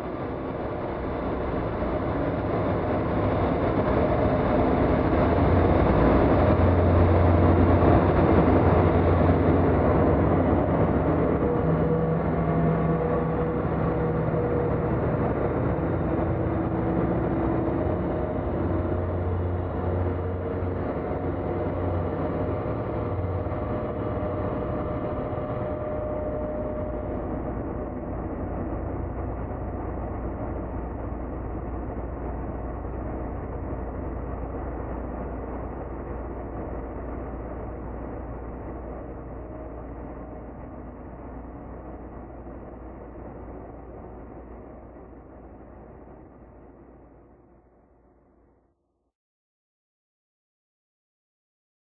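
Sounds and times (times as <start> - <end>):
dark ambient drone: 0.0 - 48.3
low hum: 0.0 - 48.5.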